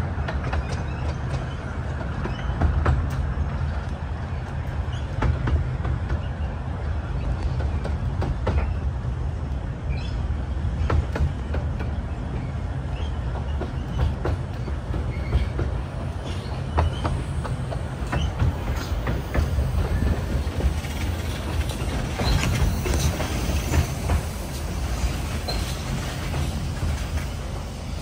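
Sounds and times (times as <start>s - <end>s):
miniature train rumbling: 0.0s - 28.0s
wheels clicking on rails: 0.0s - 28.0s.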